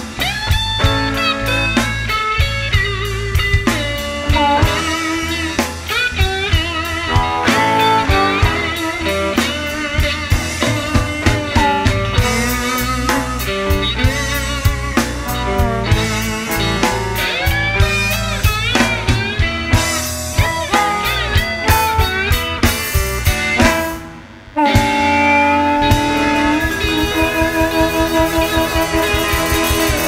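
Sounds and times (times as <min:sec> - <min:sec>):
electric guitar bent notes: 0:00.0 - 0:30.0
live blues rock band: 0:00.0 - 0:30.0.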